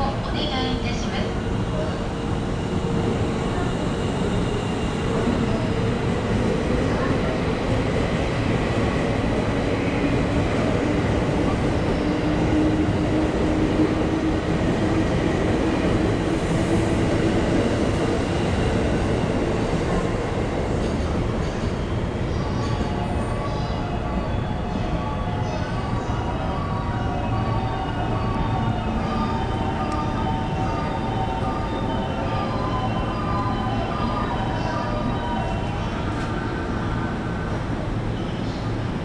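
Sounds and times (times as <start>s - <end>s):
electric train rumbling: 0.0s - 39.0s.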